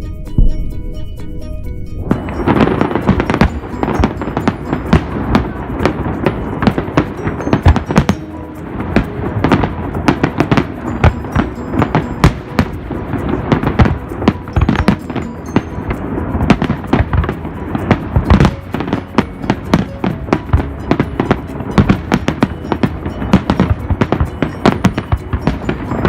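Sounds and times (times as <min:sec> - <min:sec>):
fireworks bangs: 0:02.0 - 0:26.0.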